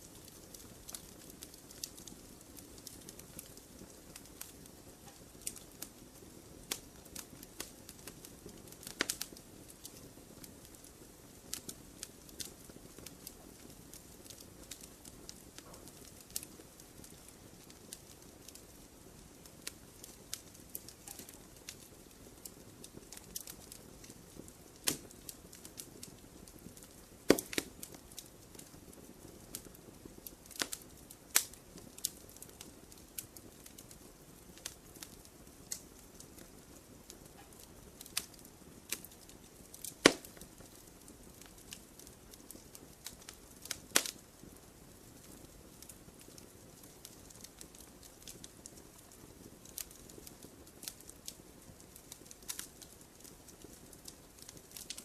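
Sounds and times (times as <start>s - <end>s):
campfire crackling and hissing: 0.0s - 55.0s
sharp pops from burning wood: 0.0s - 55.0s.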